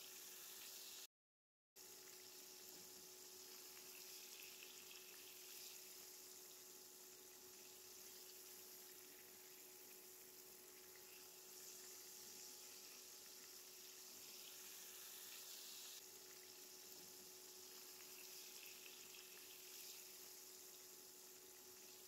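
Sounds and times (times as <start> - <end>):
faint steady hiss: 1.8 - 22.0
low electrical hum: 1.8 - 22.0.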